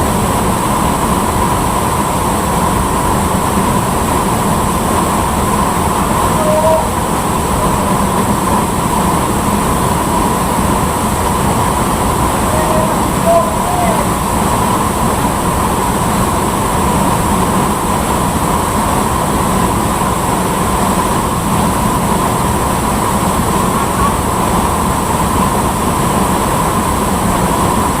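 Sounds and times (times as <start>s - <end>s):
waterfall rushing: 0.1s - 27.9s.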